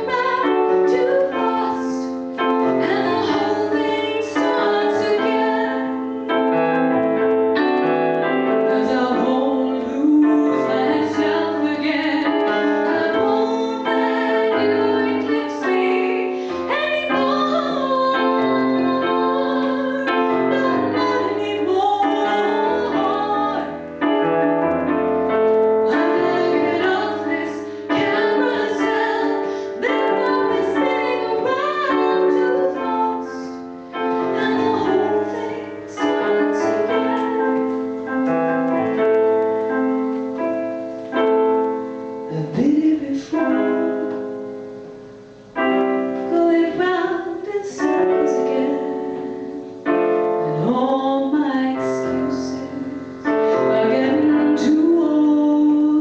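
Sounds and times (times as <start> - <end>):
woman singing: 0.0 - 6.4, 8.6 - 24.2, 25.8 - 38.2, 42.2 - 44.3, 46.2 - 56.0
digital keyboard piano accompaniment: 0.0 - 56.0.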